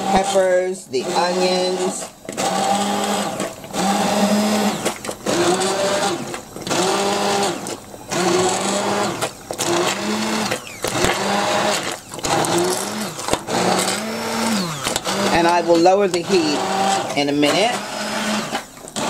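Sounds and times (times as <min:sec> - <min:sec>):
stick blender motor whining: 0:00.0 - 0:19.0.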